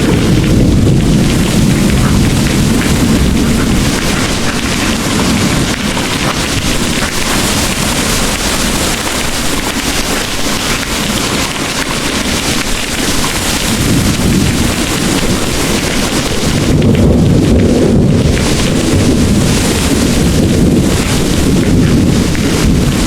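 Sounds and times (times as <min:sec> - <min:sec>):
distant thunder rumbling: 0:00.0 - 0:23.0
heavy rain pouring: 0:00.0 - 0:23.0.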